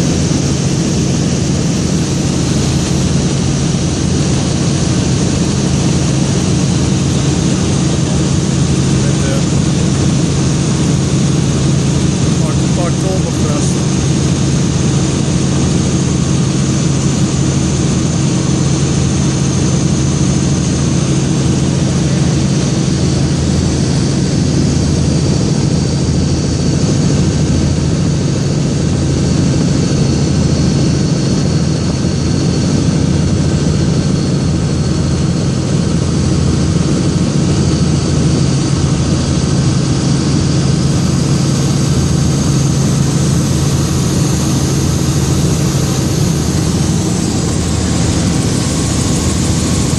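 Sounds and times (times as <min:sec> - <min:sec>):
helicopter rotor drone: 0:00.0 - 0:49.9
high turbine whine: 0:00.0 - 0:49.9.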